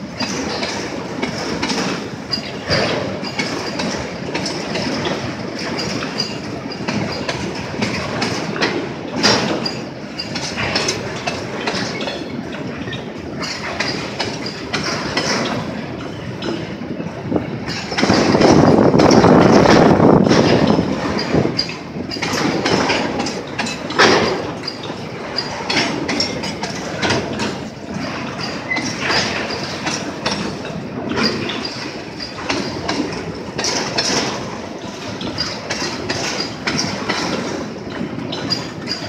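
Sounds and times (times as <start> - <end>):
train rumble: 0.0 - 39.0
train wheels clattering over rail joints: 0.0 - 39.0.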